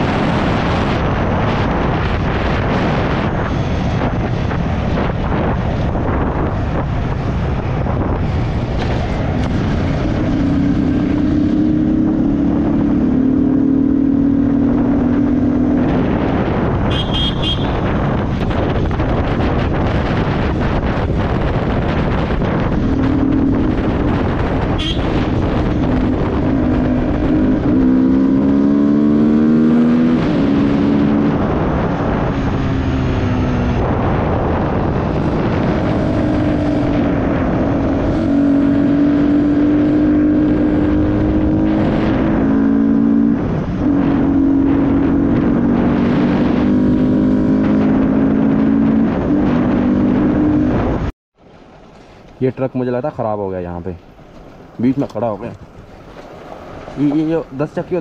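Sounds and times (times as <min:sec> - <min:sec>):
wind rush on microphone: 0:00.0 - 0:58.0.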